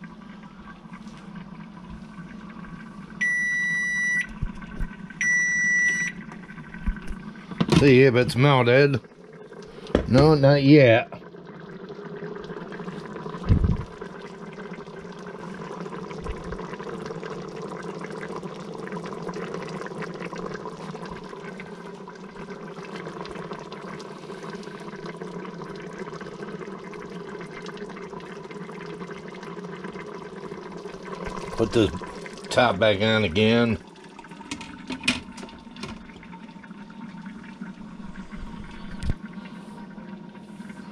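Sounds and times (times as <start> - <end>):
casserole bubbling in a pot: 0.0 - 40.9.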